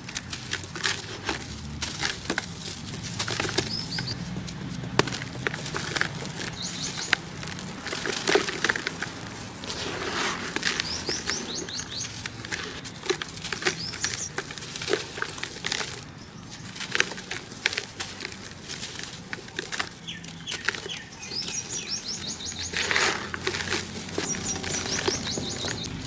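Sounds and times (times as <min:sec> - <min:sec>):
hardened sand crunching: 0:00.0 - 0:26.0.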